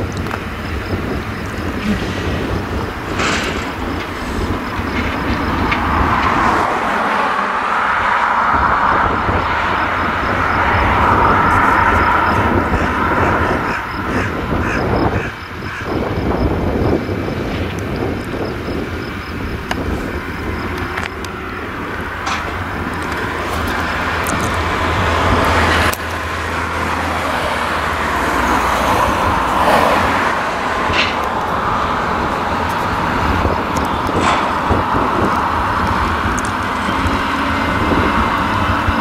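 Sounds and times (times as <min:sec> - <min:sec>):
tractor engines running: 0:00.0 - 0:39.0.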